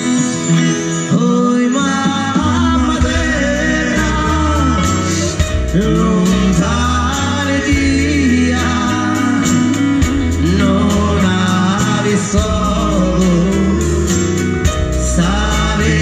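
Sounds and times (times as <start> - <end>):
folk band playing: 0.0 - 16.0
person singing: 1.0 - 16.0.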